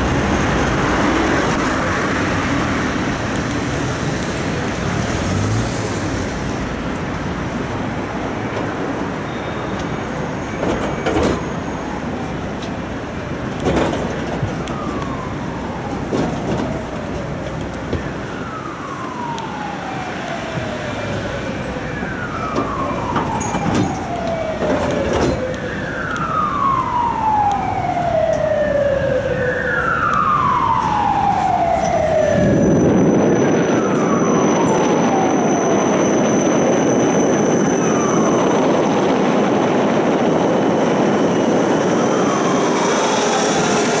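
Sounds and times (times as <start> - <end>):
emergency vehicle siren wailing: 0.0 - 44.0
rushing city traffic: 0.0 - 44.0.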